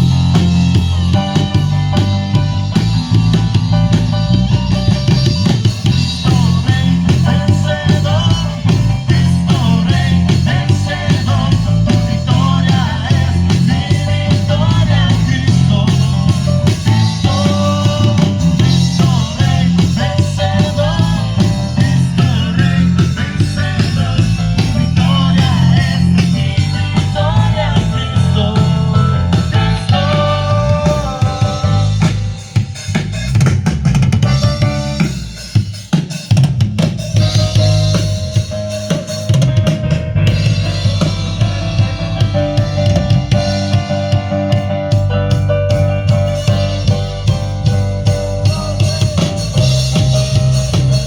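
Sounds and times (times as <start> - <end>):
bass line: 0.0 - 51.0
drum kit beat: 0.0 - 51.0
live band playing: 0.0 - 51.0.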